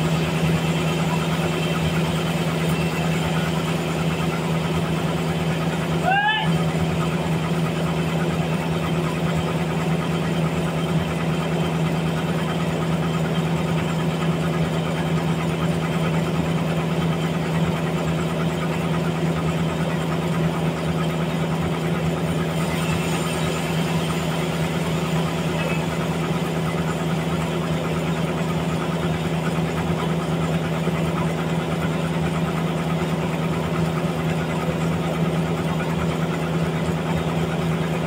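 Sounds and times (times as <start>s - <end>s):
band sawmill humming and rattling: 0.0s - 38.0s.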